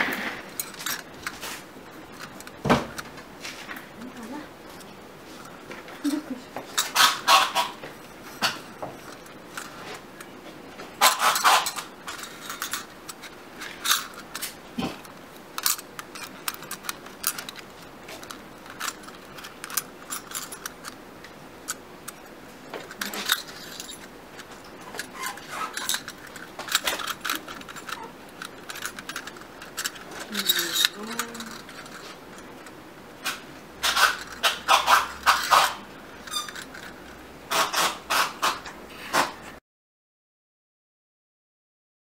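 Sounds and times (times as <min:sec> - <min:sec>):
small metal parts clinking: 0:00.5 - 0:03.0, 0:04.0 - 0:38.6.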